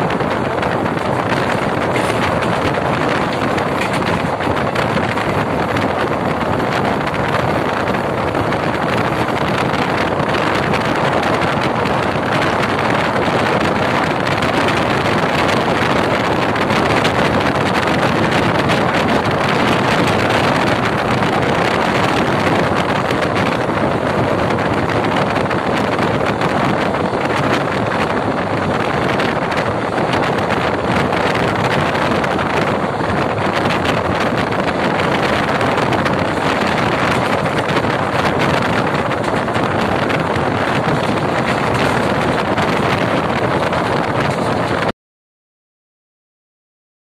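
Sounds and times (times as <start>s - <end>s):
train wheels on rails: 0.0s - 44.9s
wind rushing on microphone: 0.0s - 44.9s.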